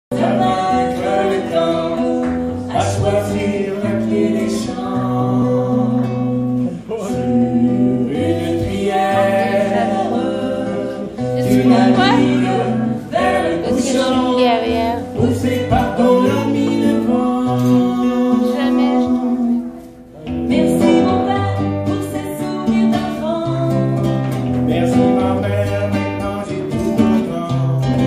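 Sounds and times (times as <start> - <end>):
person singing: 0.1 - 28.0
strummed acoustic guitar: 0.1 - 28.0.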